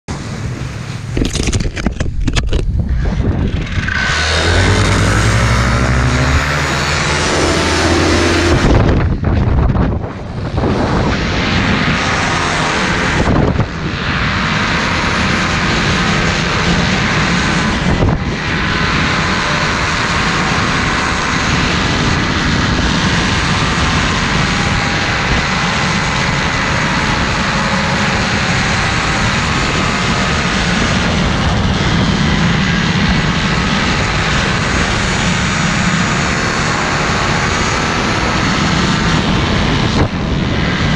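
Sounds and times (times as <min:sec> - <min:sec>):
paramotor engine and propeller: 0:00.1 - 0:40.9
wind on microphone: 0:00.1 - 0:40.9.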